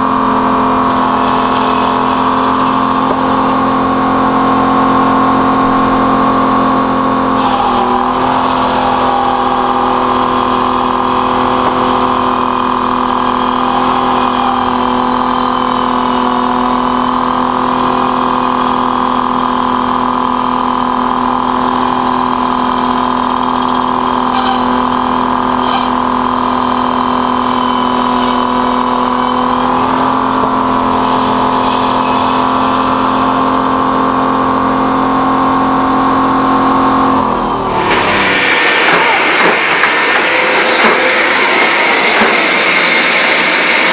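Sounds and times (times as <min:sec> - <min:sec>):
circular sawmill cutting log: 0:00.0 - 0:43.9.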